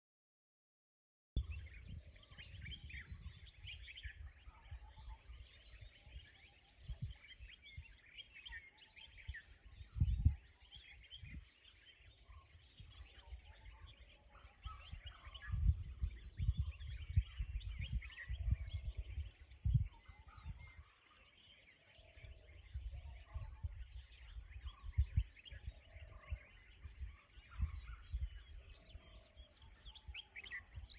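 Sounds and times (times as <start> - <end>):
wind gusts on microphone: 1.4 - 21.3, 21.9 - 30.9
birds chirping: 1.4 - 30.9.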